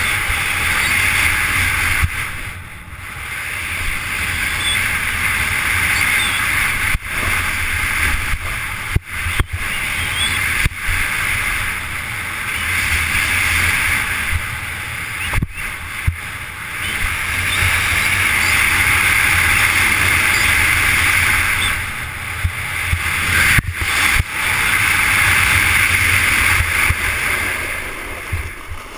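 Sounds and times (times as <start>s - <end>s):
snowboard hissing over snow: 0.0s - 28.9s
wind buffeting microphone: 0.0s - 28.9s.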